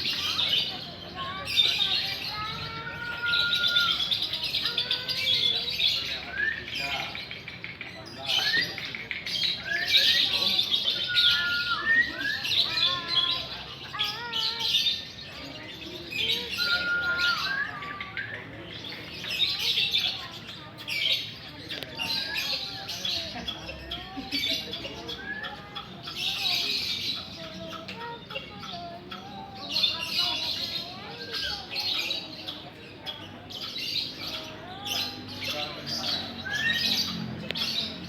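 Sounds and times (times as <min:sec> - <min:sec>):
lovebirds chattering trills: 0:00.0 - 0:38.0.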